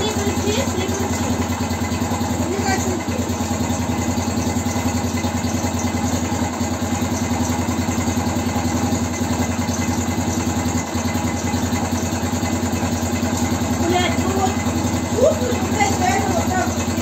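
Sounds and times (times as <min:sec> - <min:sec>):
engine knock: 0:00.0 - 0:17.0
motorcycle engine idling: 0:00.0 - 0:17.0.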